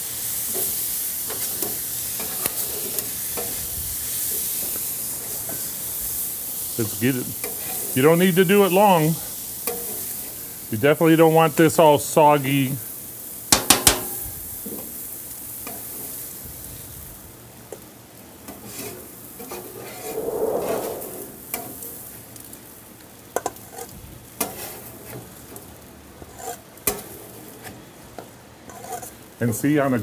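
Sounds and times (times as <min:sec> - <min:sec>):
food sizzling on a griddle: 0:00.0 - 0:19.5, 0:22.2 - 0:30.0.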